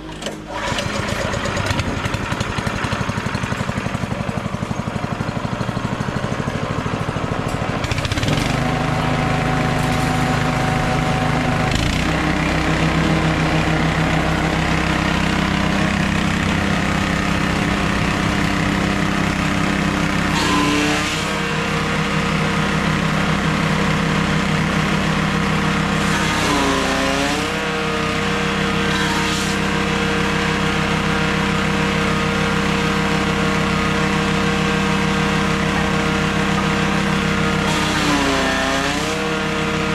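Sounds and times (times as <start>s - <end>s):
grass being chopped: 7.4s - 39.9s
small engine revving: 7.5s - 39.9s.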